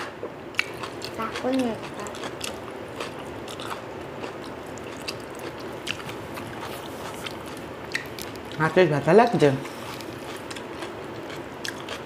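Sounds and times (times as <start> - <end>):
person chewing: 0.5 - 8.7, 9.6 - 12.0.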